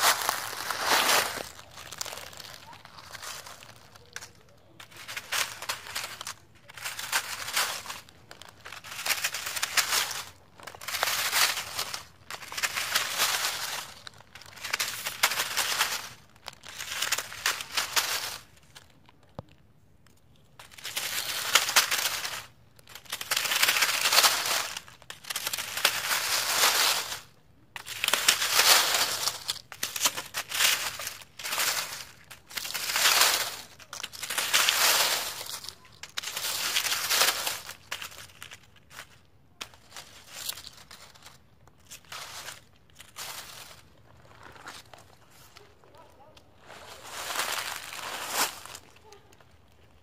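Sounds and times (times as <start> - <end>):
dry leaves crunching underfoot: 0.0 - 19.6, 20.3 - 50.0.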